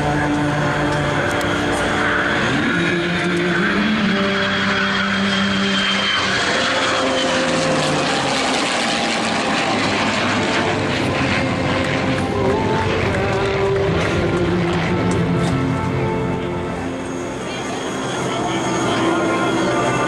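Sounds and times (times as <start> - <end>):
propeller airplane engine: 0.0 - 20.0.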